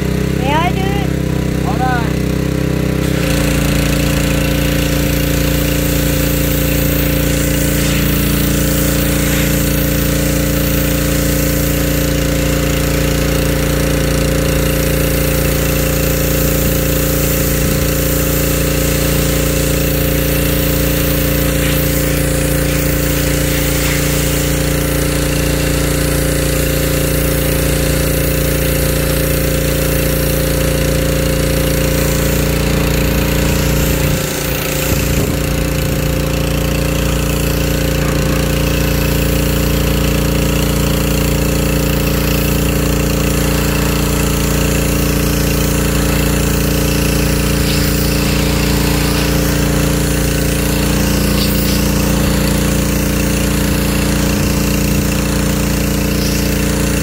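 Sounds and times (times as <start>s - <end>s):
pressure washer spraying water: 0.0s - 57.0s.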